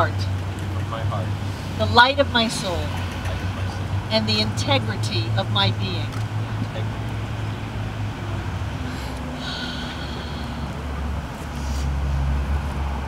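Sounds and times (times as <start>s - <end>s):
street traffic engines droning: 0.0s - 13.0s.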